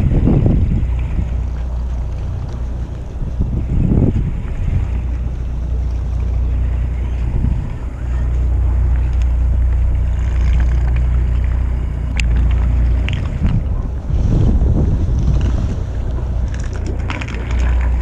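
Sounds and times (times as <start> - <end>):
boat engine humming: 0.0 - 18.0
wind buffeting microphone: 0.0 - 18.0.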